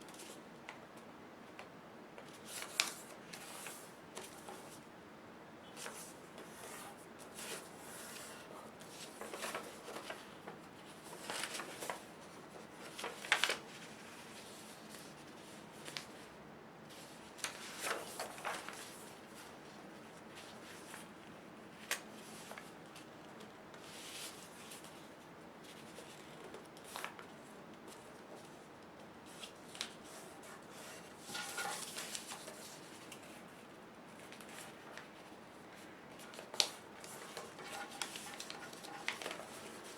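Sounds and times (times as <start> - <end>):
paper rustling and folding: 2.2 - 4.8, 5.8 - 39.9.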